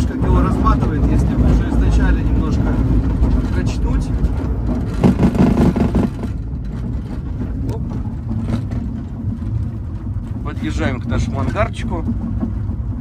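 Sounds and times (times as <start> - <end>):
glider wheel rumbling over grass: 0.0 - 13.0
cockpit rattling: 0.4 - 12.9.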